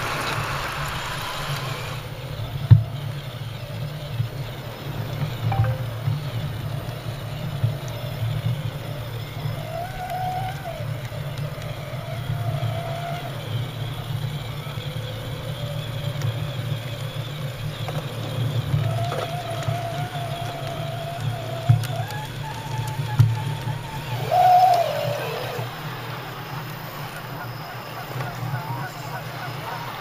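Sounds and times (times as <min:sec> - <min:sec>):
small electric motors whining: 0:00.0 - 0:05.4, 0:06.2 - 0:30.0.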